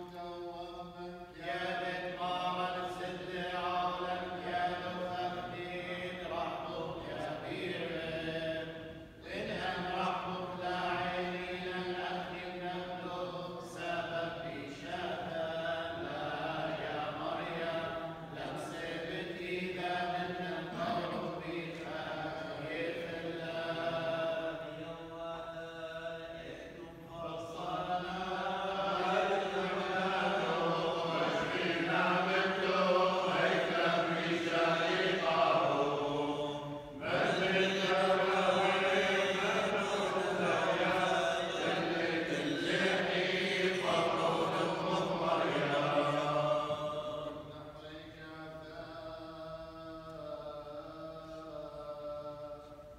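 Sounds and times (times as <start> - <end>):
men chanting together: 0.0 - 52.6.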